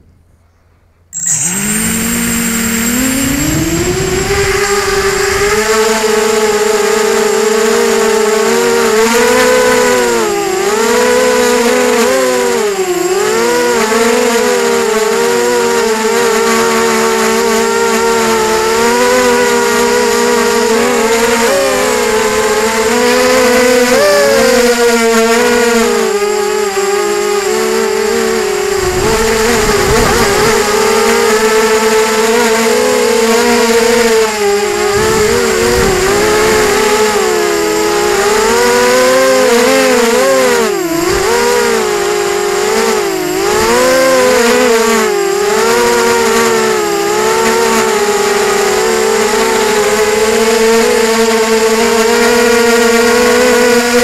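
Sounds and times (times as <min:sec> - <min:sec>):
drone motors whining: 0:01.2 - 0:54.0.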